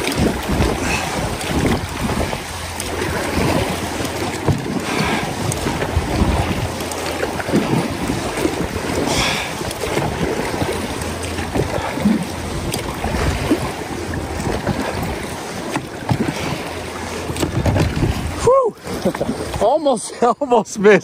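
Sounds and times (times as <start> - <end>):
wind on microphone: 0.0 - 19.7
river water rushing: 0.0 - 21.0.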